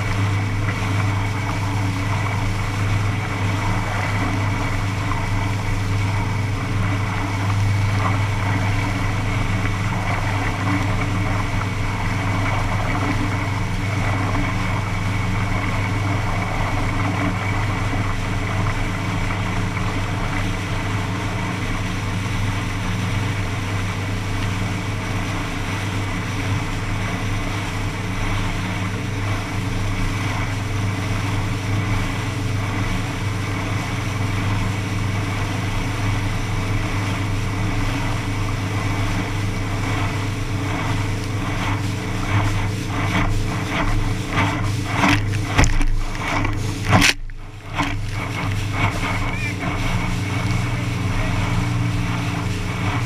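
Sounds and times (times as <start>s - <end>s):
boat engine running: 0.0s - 53.0s
water rushing along hull: 0.0s - 53.0s.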